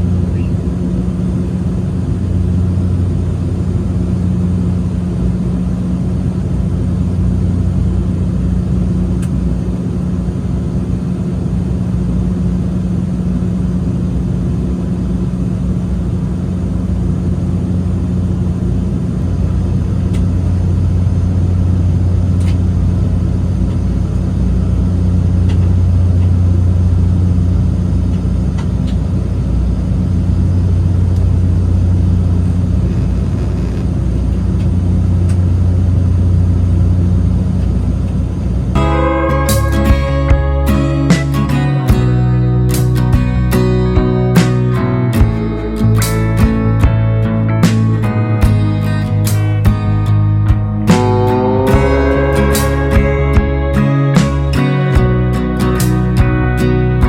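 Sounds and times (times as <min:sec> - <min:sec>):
aircraft engine drone: 0:00.0 - 0:57.0.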